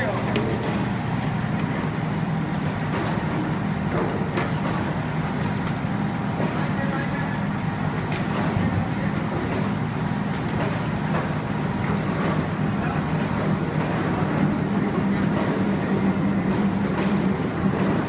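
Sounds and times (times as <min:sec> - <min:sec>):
machine low hum: 0:00.0 - 0:18.0.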